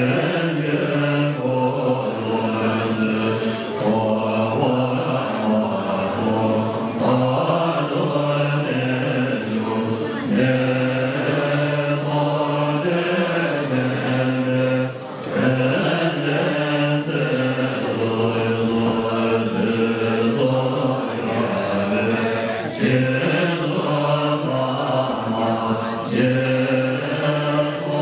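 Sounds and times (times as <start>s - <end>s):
monks chanting in low tones: 0.0s - 28.0s.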